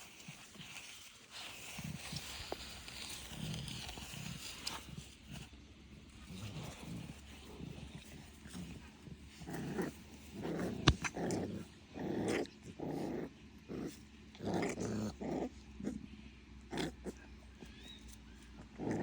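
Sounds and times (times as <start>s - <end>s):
puppies growling: 0.0s - 19.0s.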